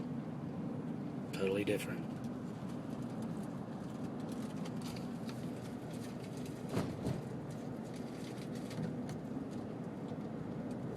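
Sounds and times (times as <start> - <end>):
road and engine noise in car: 0.0 - 10.9.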